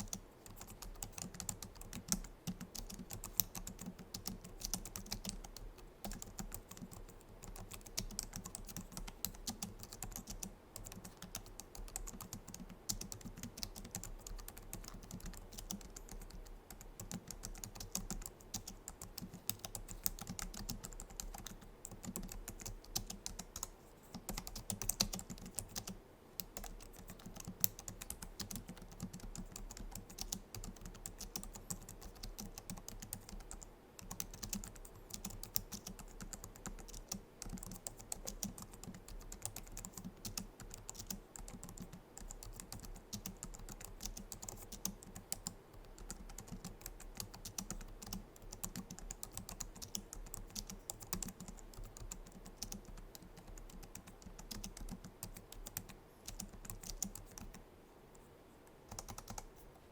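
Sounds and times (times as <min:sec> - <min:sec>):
keyboard typing: 0:00.0 - 0:57.6, 0:58.7 - 0:59.6.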